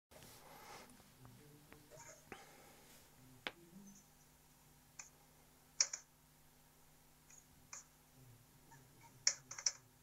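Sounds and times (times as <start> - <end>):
low steady hum: 0.2 - 10.0.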